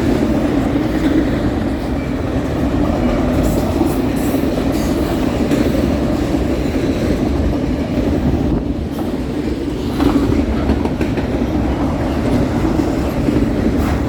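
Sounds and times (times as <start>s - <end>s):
sharp clacks of train wheels: 0.0s - 14.0s
train wheels rumbling on rail: 0.0s - 14.0s.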